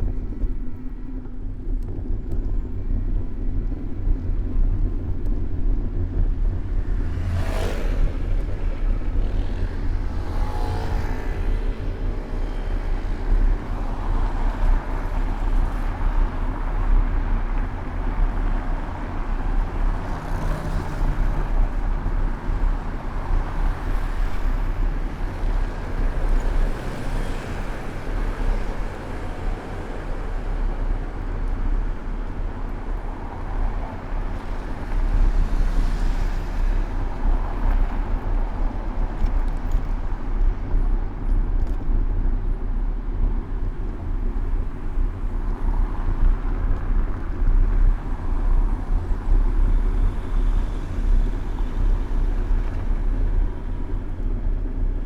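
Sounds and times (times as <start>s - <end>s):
low traffic rumble: 0.0s - 55.0s
cars passing: 6.6s - 55.0s.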